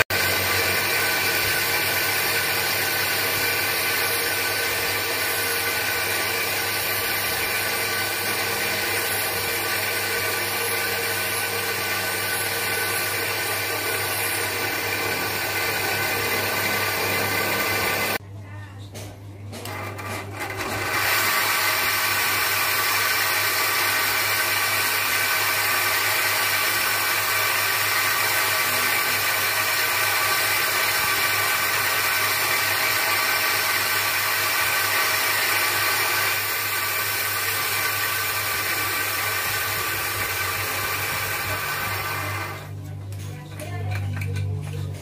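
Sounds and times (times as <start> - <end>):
bench grinder motor humming: 0.0 - 18.2, 19.7 - 42.8.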